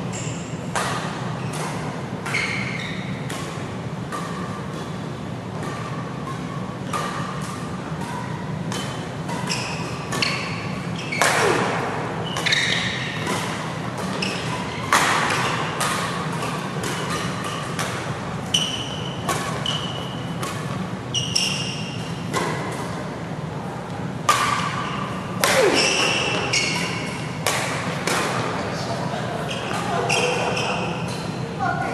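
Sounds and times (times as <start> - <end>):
shoes squeaking on court: 0.0 - 3.3, 4.2 - 11.6, 12.2 - 22.8, 24.7 - 27.4, 29.4 - 31.4
racket striking shuttlecock: 0.4 - 23.2, 24.2 - 28.6.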